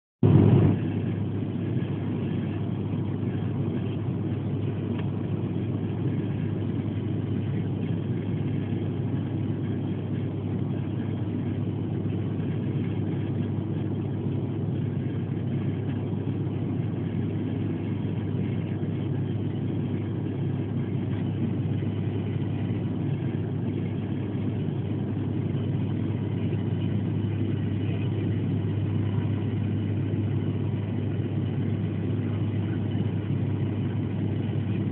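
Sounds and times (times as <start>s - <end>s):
airliner engines and propellers droning: 0.2s - 34.9s
low hum: 0.2s - 34.9s.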